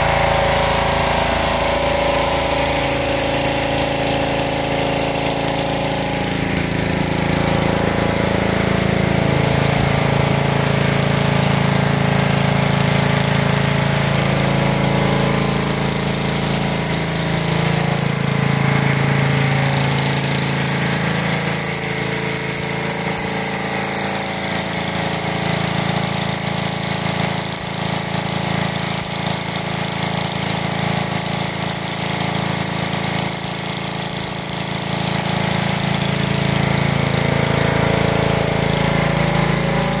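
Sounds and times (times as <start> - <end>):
pressure washer engine running: 0.0 - 40.0
water jet hissing on concrete: 0.0 - 40.0.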